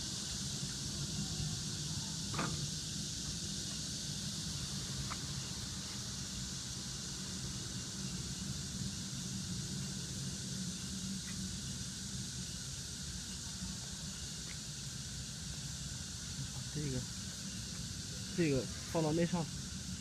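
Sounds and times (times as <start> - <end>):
constant hiss: 0.0 - 20.0.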